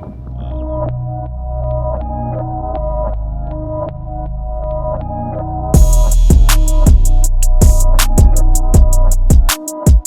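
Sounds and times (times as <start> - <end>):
ambient synth music: 0.0 - 10.0.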